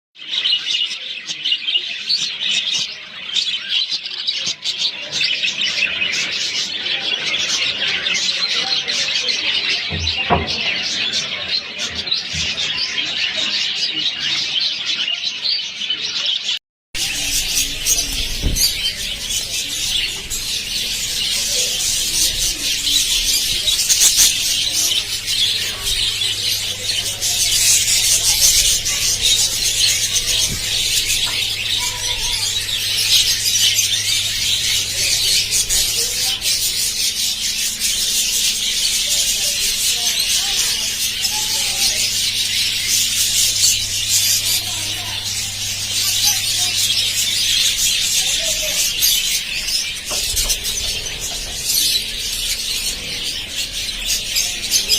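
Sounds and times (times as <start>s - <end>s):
budgerigars chattering and warbling: 0.2s - 54.9s.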